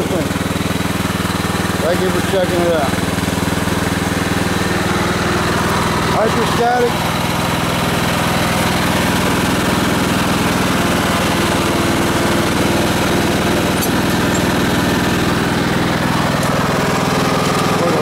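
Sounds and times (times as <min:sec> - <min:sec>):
riding mower engine running: 0:00.0 - 0:18.0.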